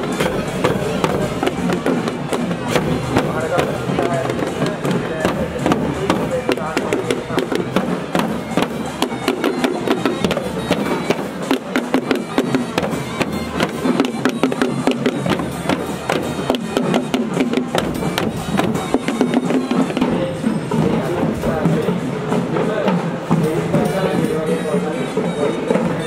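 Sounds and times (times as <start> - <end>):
marching barrel drums: 0.0 - 26.0.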